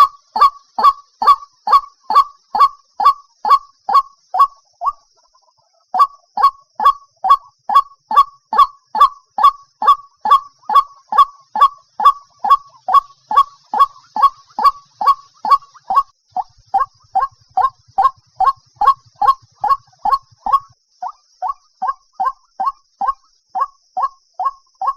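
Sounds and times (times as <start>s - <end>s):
bird calling harsh notes: 0.0s - 5.0s, 6.0s - 24.9s.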